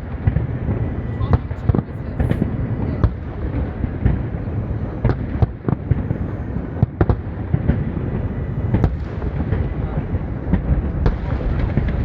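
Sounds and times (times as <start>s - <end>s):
distant fireworks rumble: 0.0s - 12.0s
sharp firework cracks: 0.0s - 12.0s.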